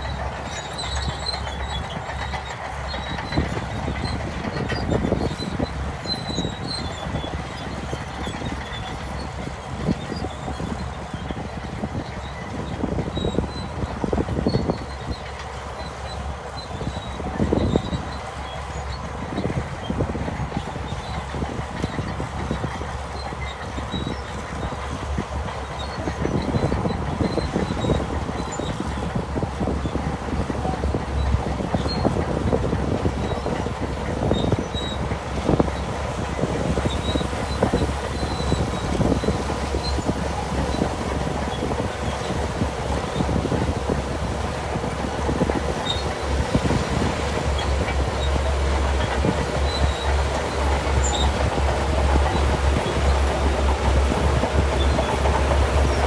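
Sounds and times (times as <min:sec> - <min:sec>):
bulldozer engine rumble: 0:00.0 - 0:56.0
steel tracks clanking: 0:00.0 - 0:56.0.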